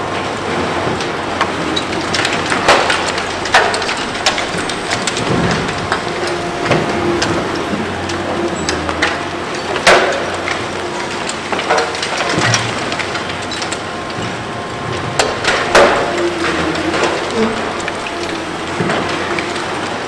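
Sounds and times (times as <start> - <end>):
excavator engine hum: 0.0 - 20.0
concrete cracking loudly: 1.4 - 20.0.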